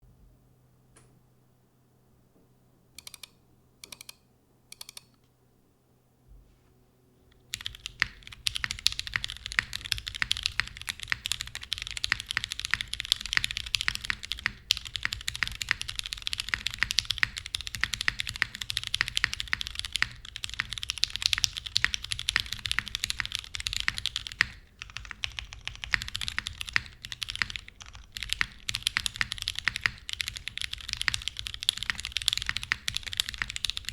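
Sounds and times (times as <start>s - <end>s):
mechanical keyboard typing: 3.0s - 5.2s, 7.4s - 33.9s.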